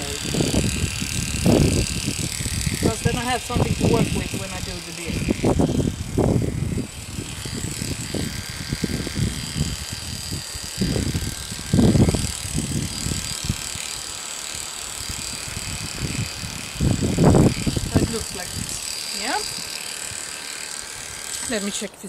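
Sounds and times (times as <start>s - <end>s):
electric clippers whining: 0.0s - 22.0s.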